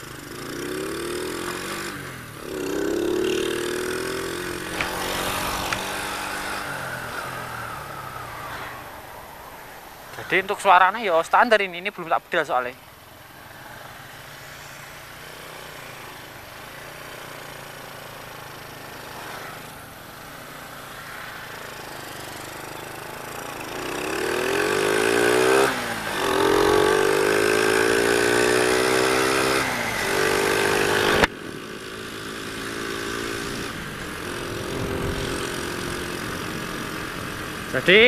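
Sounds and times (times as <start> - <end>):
motorcycle engine accelerating: 0.0 - 11.5, 12.8 - 38.0.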